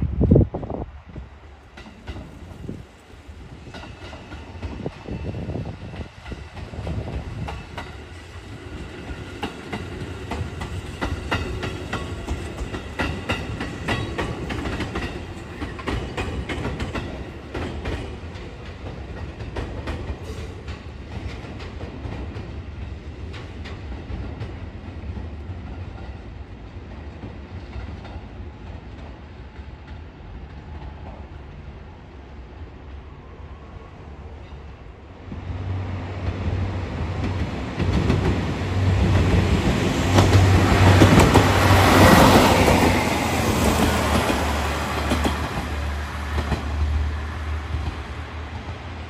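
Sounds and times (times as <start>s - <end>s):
low train rumble: 0.0s - 49.0s
train wheels clicking over rail joints: 1.2s - 2.9s, 3.5s - 31.4s, 36.2s - 48.9s.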